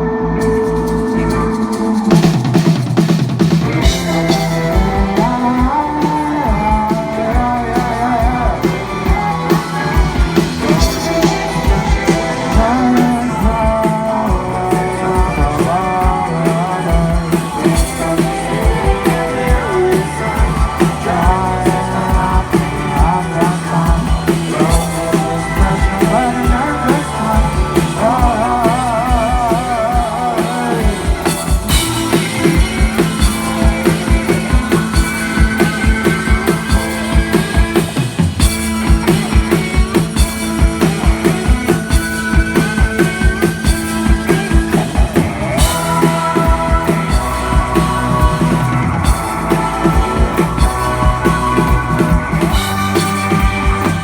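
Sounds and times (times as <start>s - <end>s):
drums keeping a steady beat: 0.0s - 54.0s
rock band playing live: 0.0s - 54.0s.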